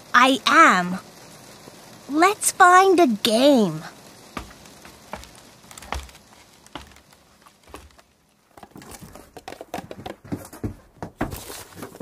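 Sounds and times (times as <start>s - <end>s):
rain patter: 0.0s - 10.7s.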